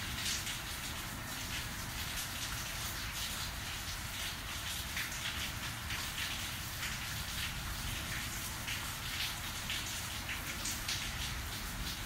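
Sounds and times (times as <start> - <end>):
louder raindrops: 0.0 - 12.0
rain falling: 0.0 - 12.0.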